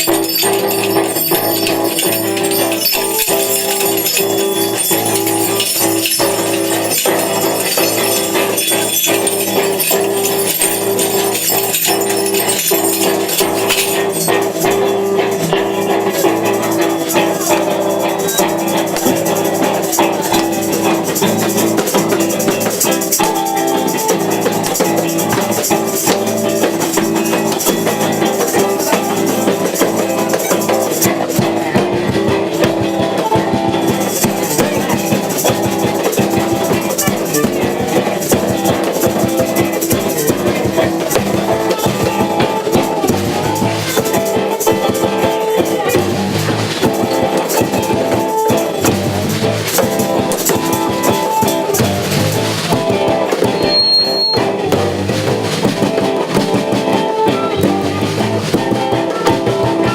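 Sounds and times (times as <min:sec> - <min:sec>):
drums: 0:00.0 - 0:59.9
guitar: 0:00.0 - 0:59.9
live band music: 0:00.0 - 0:59.9
maraca shaking: 0:00.0 - 0:59.9.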